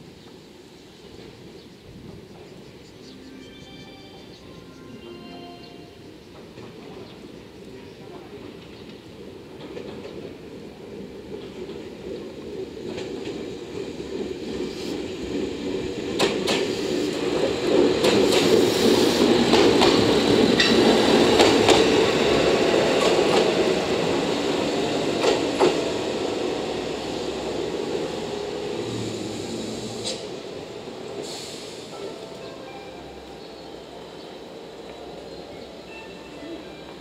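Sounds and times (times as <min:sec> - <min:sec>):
diesel railcar engine passing: 0:00.3 - 0:37.0.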